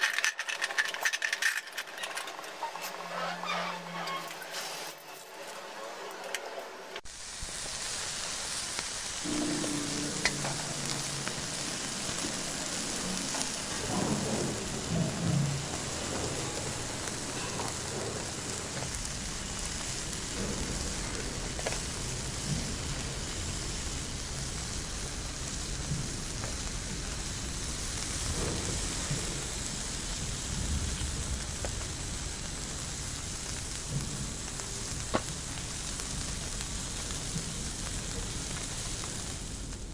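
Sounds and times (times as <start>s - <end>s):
steady rain-like hiss: 0.0s - 39.9s.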